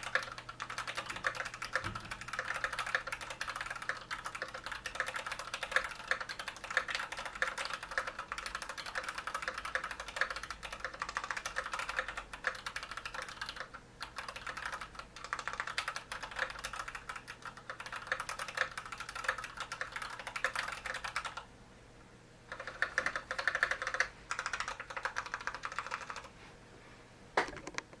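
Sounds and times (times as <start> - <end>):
fast typing on mechanical keyboard: 0.0 - 21.5, 22.5 - 26.3.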